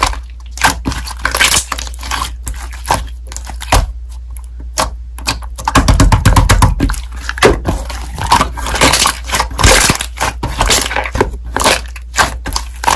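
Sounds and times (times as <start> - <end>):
slime squishing and crackling: 0.0 - 12.9.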